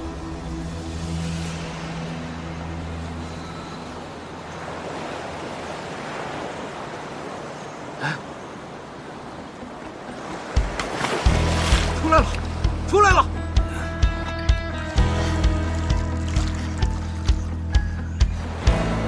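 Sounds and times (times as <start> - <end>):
sea waves washing: 0.0 - 14.0, 14.7 - 19.0.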